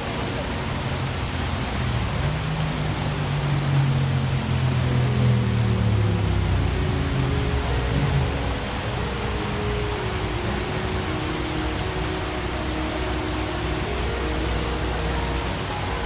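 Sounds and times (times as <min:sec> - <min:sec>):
stream water rushing and gurgling: 0:00.0 - 0:16.0.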